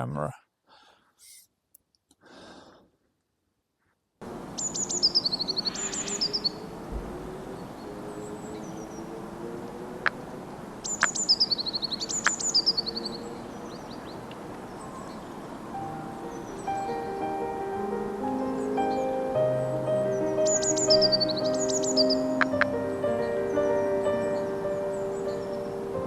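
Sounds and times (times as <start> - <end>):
songbird singing: 4.2 - 26.0.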